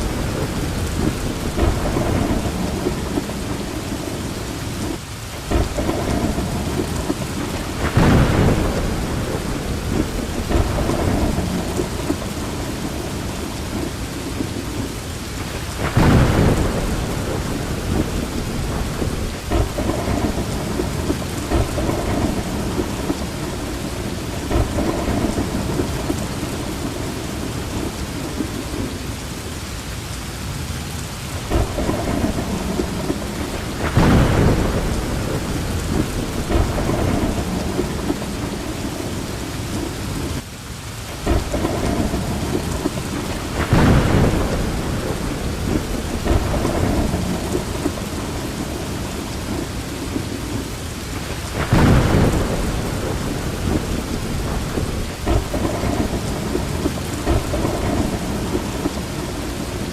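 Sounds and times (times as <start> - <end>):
thunder crashes: 0.0 - 14.6, 15.5 - 28.9, 31.5 - 40.2, 41.2 - 50.6, 51.2 - 59.9
thunder rumbling: 0.0 - 29.7, 30.5 - 40.4, 41.0 - 59.9
heavy rain: 0.0 - 59.9.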